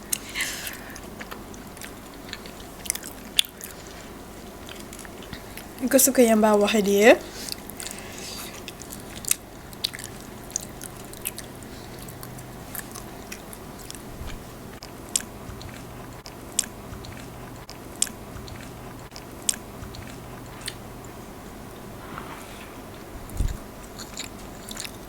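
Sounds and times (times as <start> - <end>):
faint low hum: 0.0 - 25.0
chewing crunchy food: 0.1 - 5.8, 7.4 - 22.1, 22.9 - 25.0.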